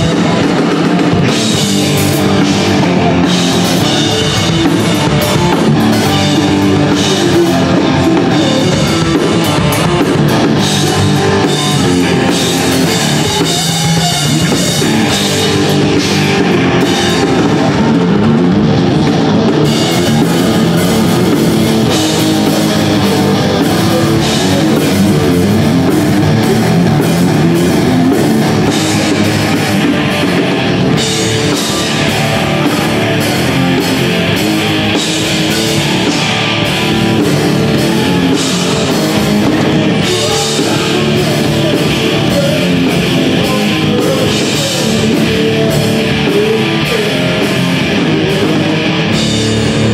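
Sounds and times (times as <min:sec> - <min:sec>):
drum kit: 0:00.0 - 0:49.9
electric guitar: 0:00.0 - 0:49.9
rock band playing: 0:00.0 - 0:49.9.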